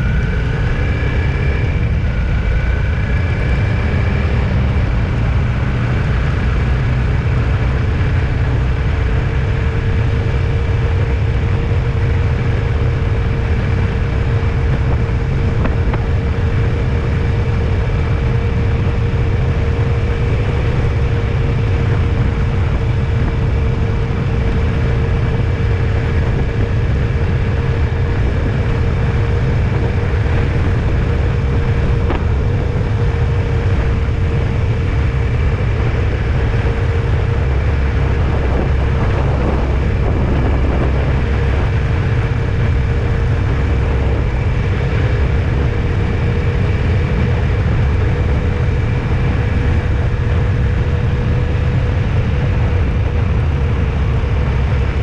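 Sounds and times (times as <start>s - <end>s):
constant hum: 0.0s - 55.0s
vehicle engine and road rumble: 0.0s - 55.0s.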